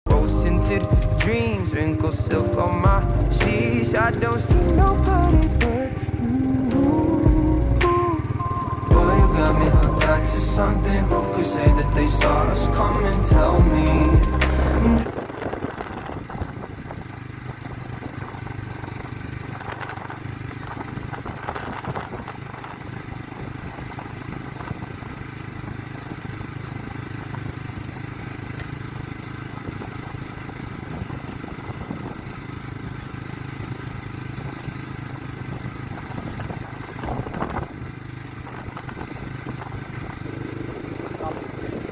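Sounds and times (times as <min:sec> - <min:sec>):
motorcycle engine running: 0:00.1 - 0:41.9
road and wind noise: 0:00.1 - 0:41.9.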